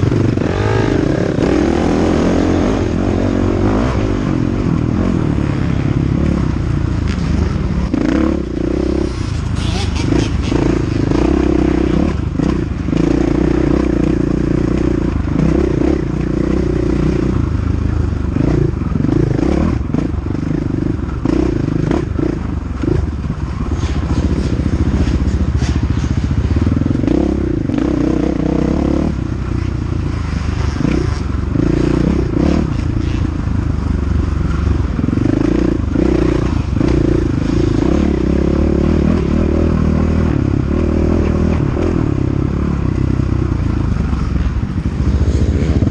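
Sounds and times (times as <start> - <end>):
dirt bike engine revving: 0.0 - 17.5, 18.2 - 33.3, 34.5 - 45.9
knocks and rattles from bike: 2.4 - 45.9.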